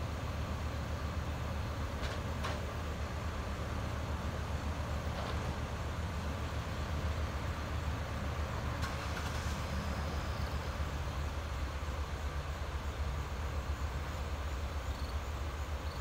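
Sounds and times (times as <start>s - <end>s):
truck engine running: 0.0s - 15.8s.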